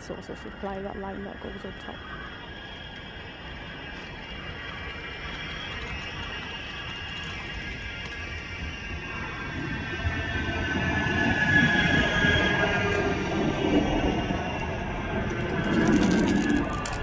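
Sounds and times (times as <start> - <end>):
high electric whine: 0.0 - 17.0
wheel-on-rail rumble: 0.0 - 17.0.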